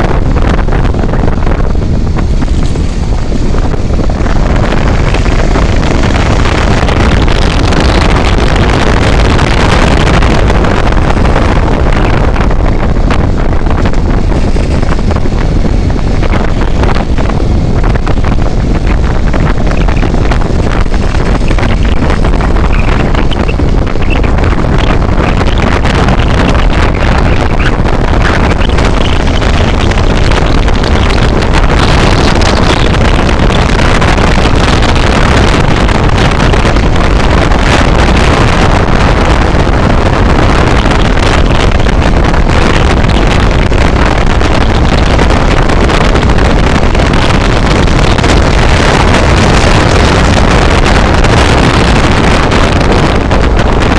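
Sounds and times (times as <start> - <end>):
low vehicle rumble: 0.0 - 53.9
wind buffeting microphone: 0.0 - 53.9.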